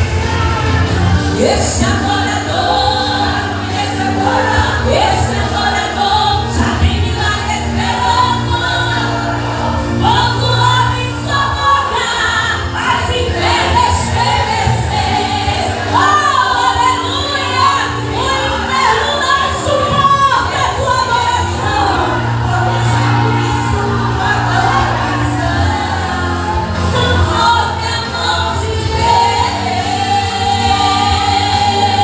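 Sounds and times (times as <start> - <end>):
choir singing a hymn: 0.0 - 32.0
steady bass: 0.0 - 32.0.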